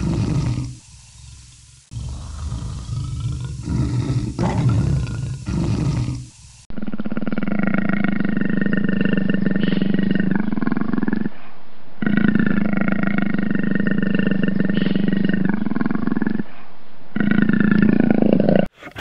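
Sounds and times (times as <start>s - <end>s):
long rough animal call: 0.0s - 11.4s, 12.0s - 16.6s.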